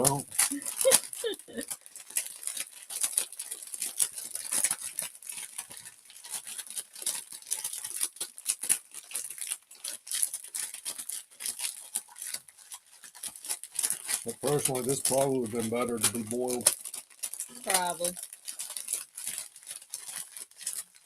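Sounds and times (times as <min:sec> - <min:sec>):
plastic packet crinkling: 0:00.0 - 0:21.0.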